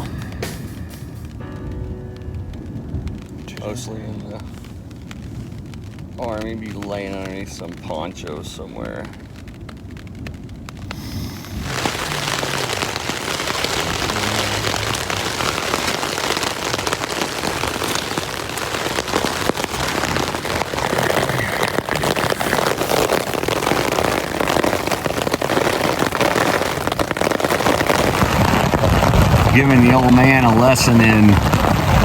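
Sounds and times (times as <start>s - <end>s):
rain pattering on ponchos: 0.0s - 32.0s.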